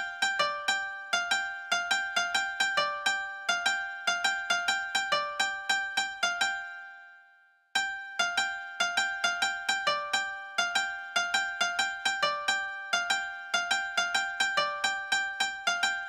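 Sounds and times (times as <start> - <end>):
light plucked melody: 0.0 - 7.2, 7.8 - 16.0.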